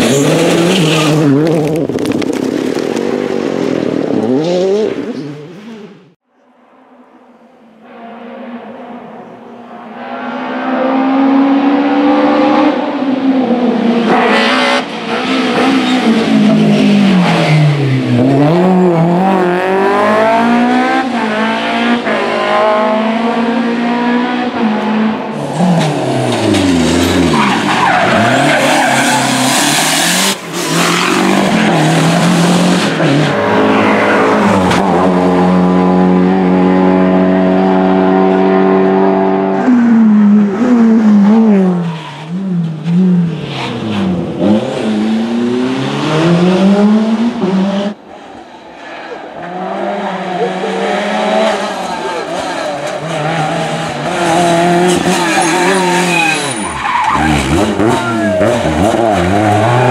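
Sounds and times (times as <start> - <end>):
rally car engines revving: 0.0 - 6.2, 7.3 - 59.9.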